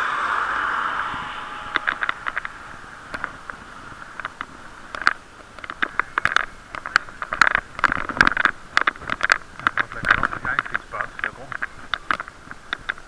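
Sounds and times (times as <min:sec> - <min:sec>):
muffled knocking and clicking: 0:01.2 - 0:13.0.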